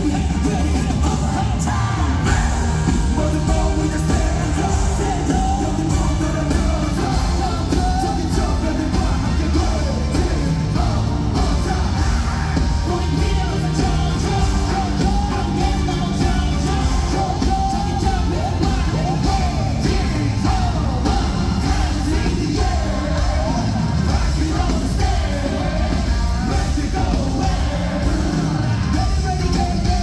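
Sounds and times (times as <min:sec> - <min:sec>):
backing track with heavy bass: 0:00.0 - 0:30.0
crowd yelling: 0:00.0 - 0:30.0
group singing and rapping: 0:00.0 - 0:30.0.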